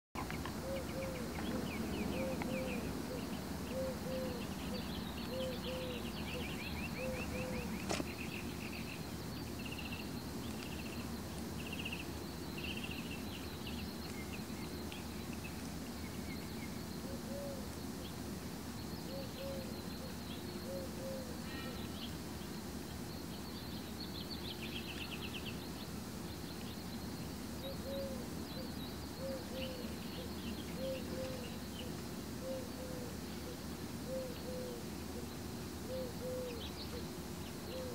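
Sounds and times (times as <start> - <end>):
low cooing bird: 0.2 - 9.0, 9.7 - 22.2, 27.5 - 37.9
small birds chirping and trilling: 0.2 - 37.9
steady low hum: 0.2 - 37.9.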